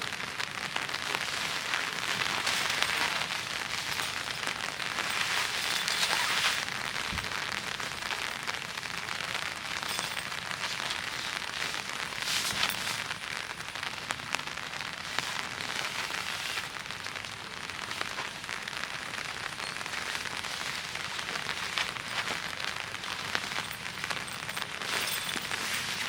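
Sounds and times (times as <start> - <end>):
rain pattering: 0.0 - 26.0.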